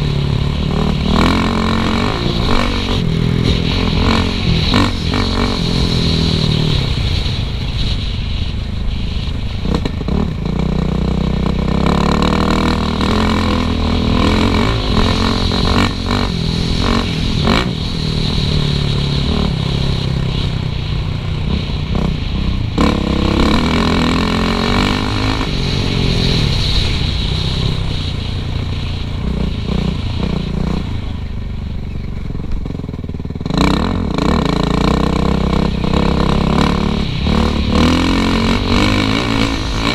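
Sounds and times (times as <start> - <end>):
dirt bike engine revving: 0.0 - 7.3, 9.6 - 20.5, 21.3 - 28.4, 32.6 - 39.9.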